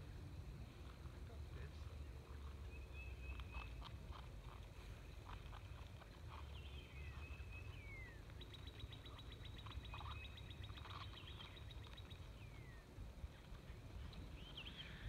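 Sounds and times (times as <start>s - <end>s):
low steady rumble: 0.0s - 15.0s
rapid dry bird trill: 2.4s - 15.0s.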